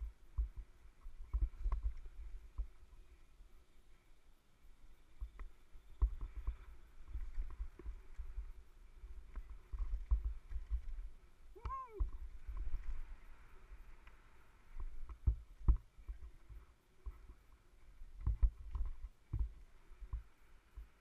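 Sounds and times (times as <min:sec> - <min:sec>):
wind buffeting camera: 0:00.0 - 0:03.2, 0:05.0 - 0:21.0.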